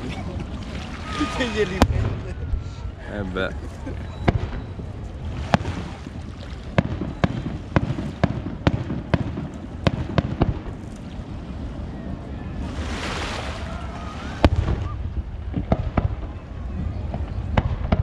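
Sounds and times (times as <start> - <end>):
fireworks bangs: 0.0 - 2.8, 4.1 - 18.0.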